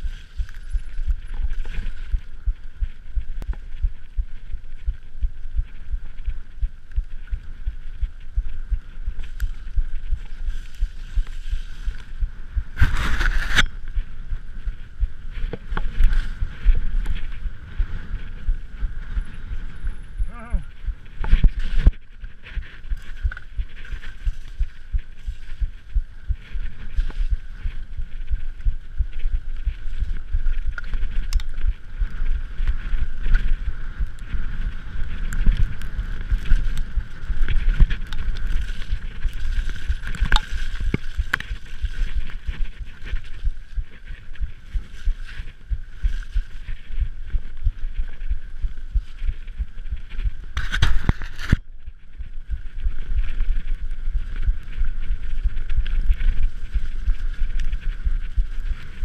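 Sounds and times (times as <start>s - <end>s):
mountain bike low rumble: 0.0s - 59.0s.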